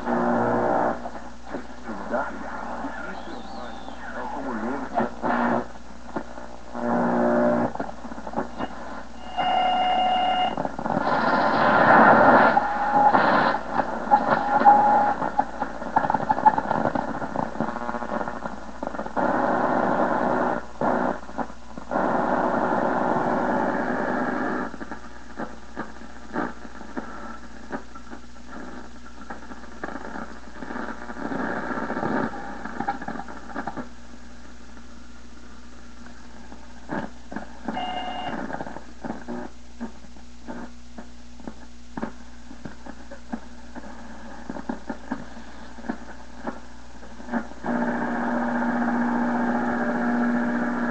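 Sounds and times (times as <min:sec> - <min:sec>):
crackling static: 0:00.0 - 0:50.9
radio static hissing: 0:00.0 - 0:50.9.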